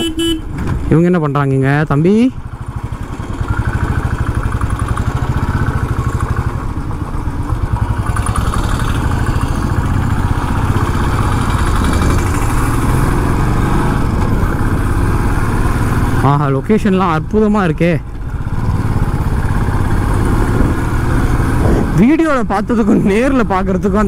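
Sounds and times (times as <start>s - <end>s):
motorcycle engine under load: 2.0s - 22.0s.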